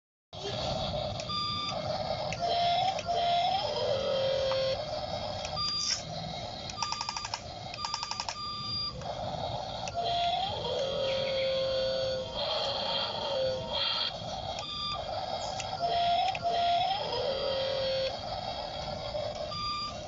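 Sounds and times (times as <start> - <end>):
rapid beeping: 0.4 - 20.0
toy electronic beeps and tones: 0.4 - 20.0.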